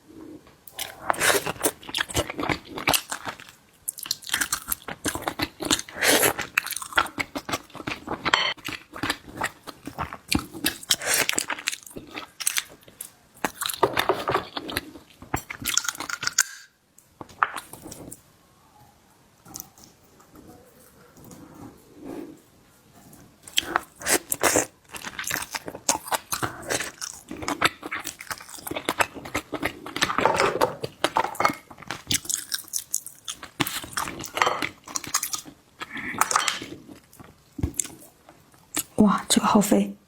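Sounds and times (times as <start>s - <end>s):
wet crunching and chewing: 0.7s - 18.2s, 23.4s - 39.0s.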